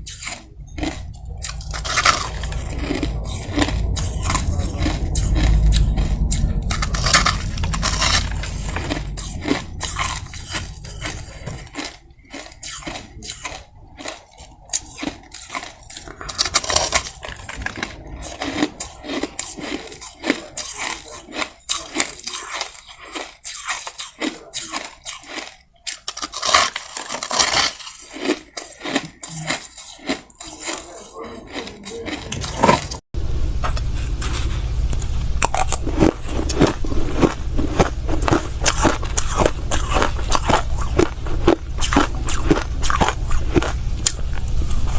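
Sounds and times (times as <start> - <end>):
crushed ice being chewed: 0.0 - 33.0, 33.7 - 44.9.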